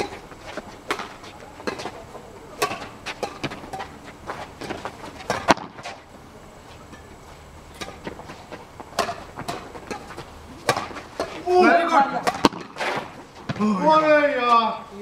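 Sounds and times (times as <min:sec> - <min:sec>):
footsteps on court: 0:00.0 - 0:02.1, 0:02.8 - 0:11.4, 0:12.4 - 0:14.7
rackets hitting shuttlecock: 0:00.0 - 0:06.0, 0:06.9 - 0:14.6.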